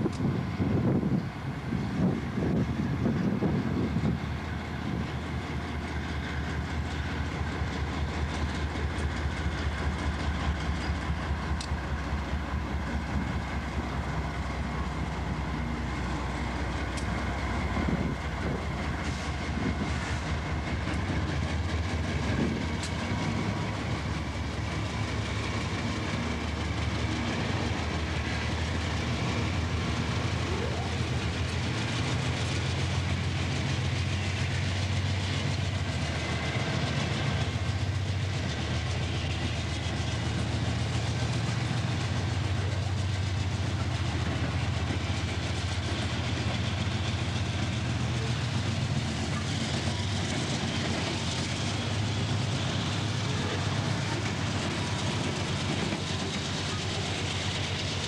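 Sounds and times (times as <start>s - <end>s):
locomotive engines droning: 0.0s - 58.0s
train wheels clattering on rails: 0.0s - 58.0s.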